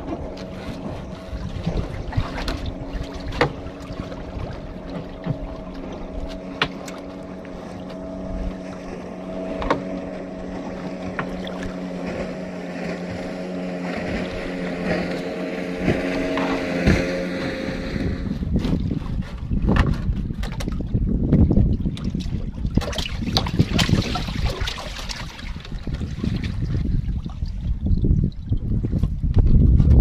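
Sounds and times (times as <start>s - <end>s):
boat engine running: 0.0s - 30.0s
wind on microphone: 0.0s - 30.0s.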